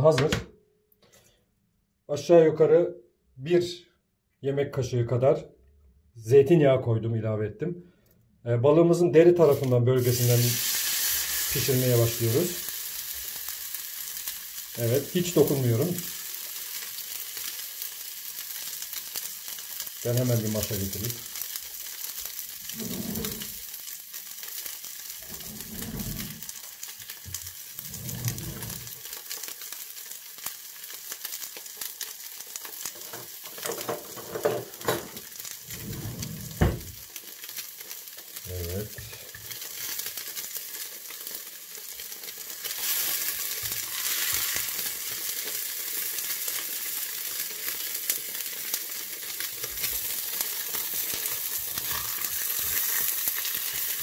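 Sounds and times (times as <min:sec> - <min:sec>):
fish sizzling in a frying pan: 0:09.4 - 0:54.0.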